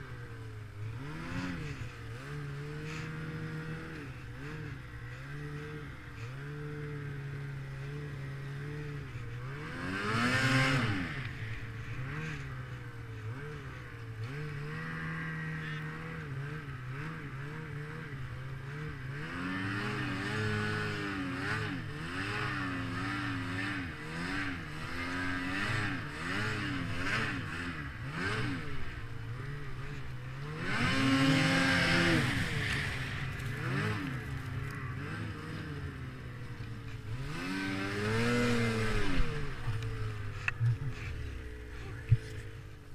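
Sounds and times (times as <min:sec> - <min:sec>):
snowmobile engine revving: 0:00.0 - 0:42.9.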